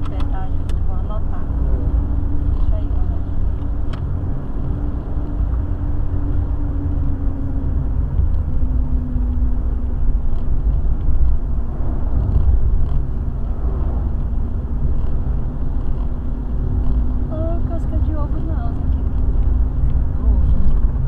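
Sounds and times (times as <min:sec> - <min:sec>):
car road rumble and engine drone: 0:00.0 - 0:21.0
truck passing: 0:00.0 - 0:21.0.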